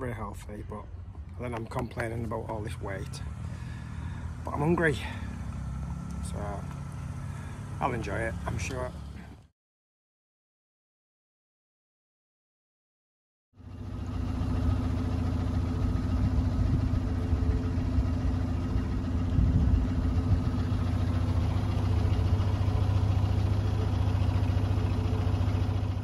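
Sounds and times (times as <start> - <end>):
boat engine running: 0.0 - 9.5, 13.6 - 26.0.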